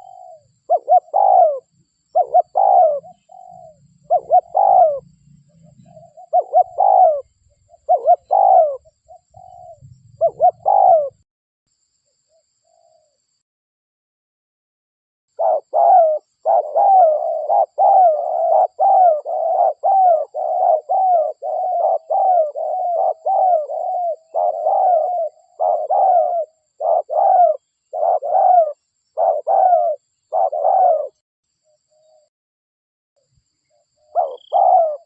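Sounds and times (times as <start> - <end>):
dove cooing: 0.0 - 11.2, 15.4 - 31.2, 34.0 - 35.0.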